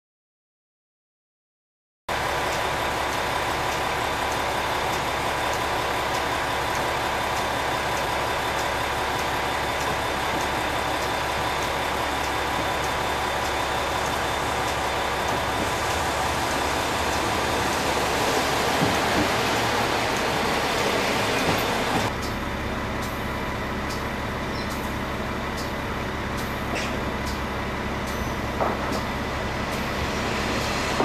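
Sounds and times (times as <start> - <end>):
diesel railcar engine running: 2.1 - 31.0.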